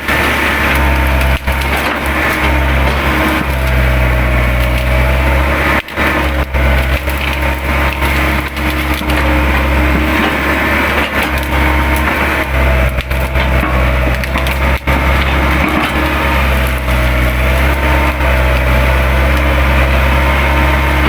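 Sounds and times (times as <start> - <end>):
branches cracking and snapping: 0.0 - 21.0
excavator engine under load: 0.0 - 21.0.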